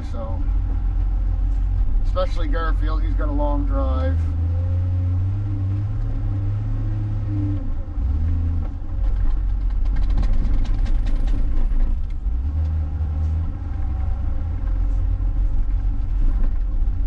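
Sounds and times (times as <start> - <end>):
diesel loader engine working: 0.0 - 17.0.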